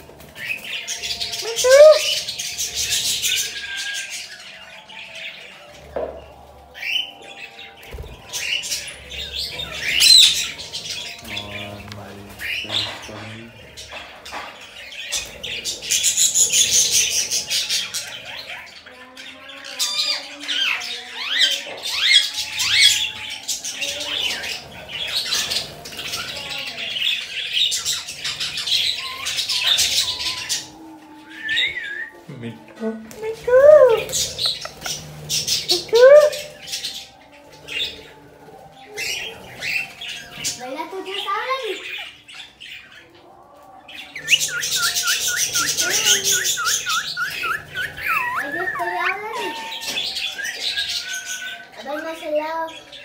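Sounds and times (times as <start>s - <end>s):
parrots chirping and squawking: 0.0s - 53.0s.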